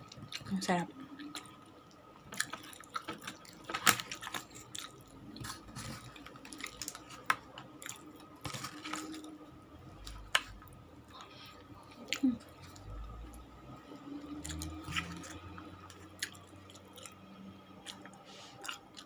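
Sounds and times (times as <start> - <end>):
faint steady hum: 0.0 - 19.0
person chewing food: 1.1 - 9.4, 10.0 - 13.5, 14.1 - 19.0.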